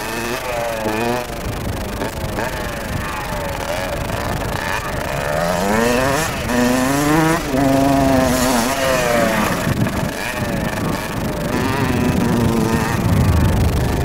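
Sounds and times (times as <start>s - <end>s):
motocross bike revving: 0.0s - 14.0s.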